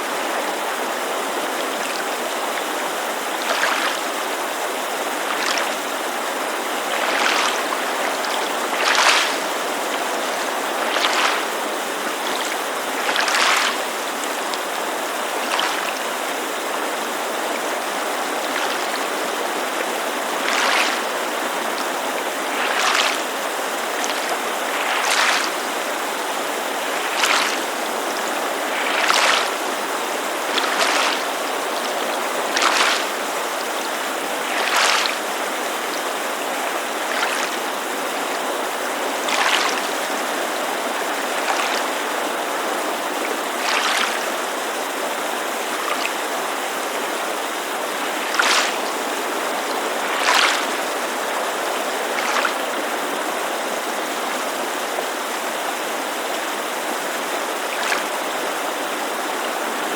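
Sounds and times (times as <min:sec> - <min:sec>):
creek rushing: 0:00.0 - 0:59.9
small waves lapping on shore: 0:00.0 - 0:59.9.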